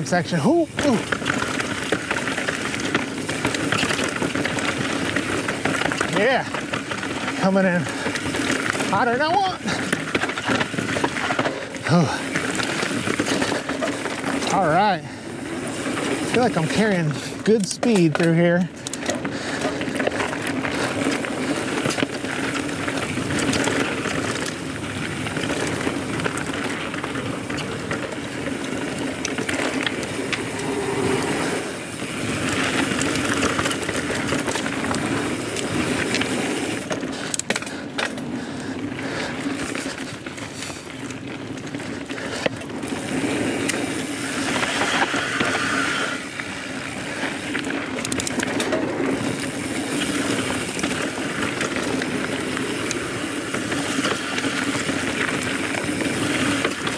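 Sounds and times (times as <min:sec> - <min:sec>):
bike clicks and rattles: 0:00.0 - 0:56.9
bike tyres rolling over dirt: 0:00.0 - 0:56.9.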